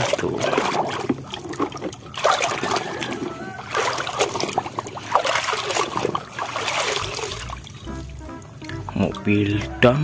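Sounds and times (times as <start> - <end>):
water sloshing in a basin: 0.0 - 9.7.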